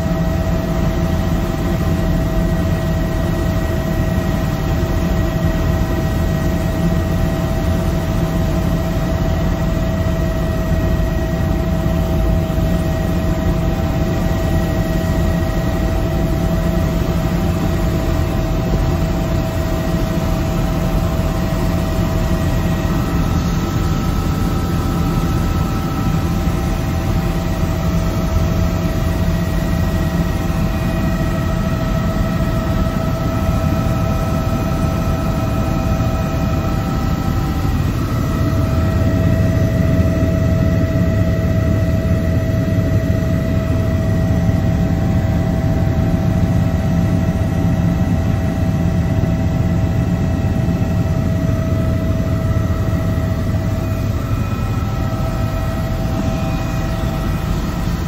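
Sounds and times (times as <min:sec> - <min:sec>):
constant whine: 0:00.0 - 0:58.0
helicopter rotor and turbine drone: 0:00.0 - 0:58.0.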